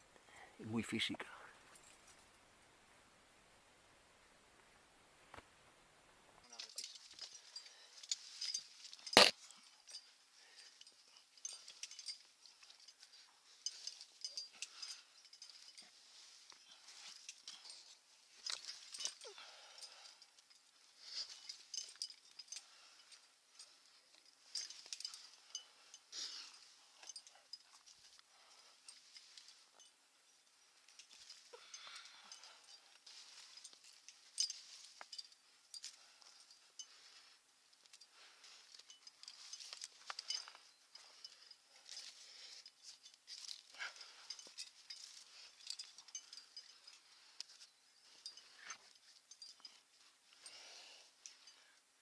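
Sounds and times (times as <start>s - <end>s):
carabiners clinking: 6.4s - 52.0s.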